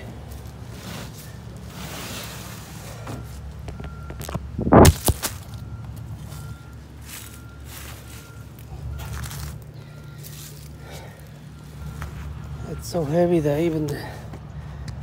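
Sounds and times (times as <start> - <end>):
rustling handling noise: 0.2 - 12.9.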